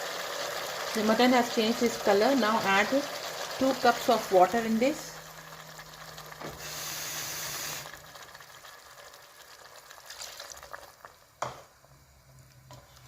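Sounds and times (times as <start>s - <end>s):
water hissing in a hot pot: 0.0s - 11.4s.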